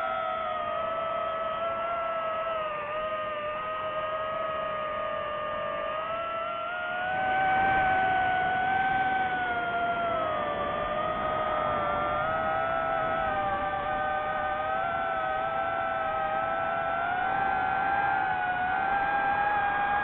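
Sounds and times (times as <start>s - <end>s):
drone propellers whining: 0.0s - 20.0s.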